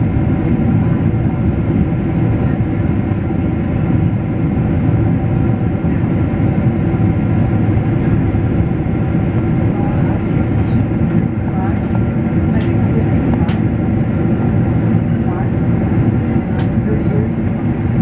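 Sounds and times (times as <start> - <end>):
airliner cabin rumble: 0.0 - 18.0
faint engine tones: 0.5 - 18.0.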